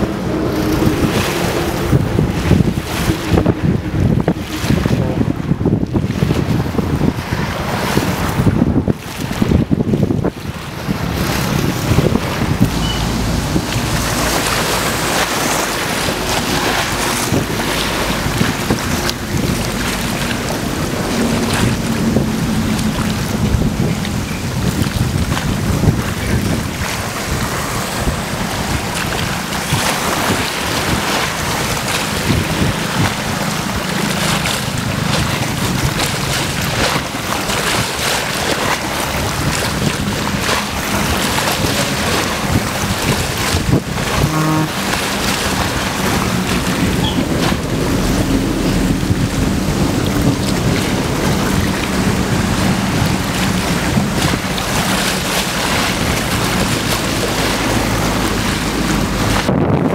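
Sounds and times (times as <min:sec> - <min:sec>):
waves splashing and lapping: 0:00.0 - 0:59.9
wind buffeting microphone: 0:00.0 - 0:59.9.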